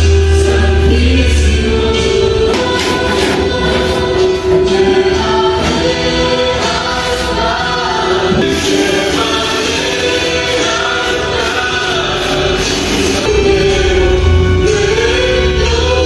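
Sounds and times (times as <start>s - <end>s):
gospel choir singing: 0.0s - 16.0s.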